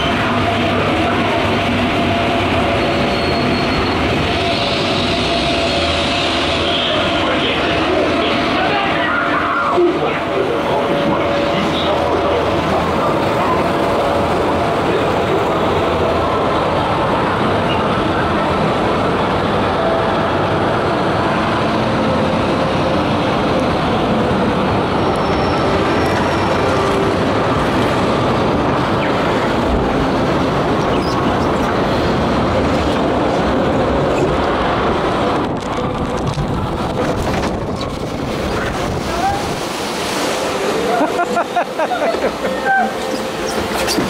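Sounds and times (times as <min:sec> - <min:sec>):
rumbling log flume ride noise: 0:00.0 - 0:44.0.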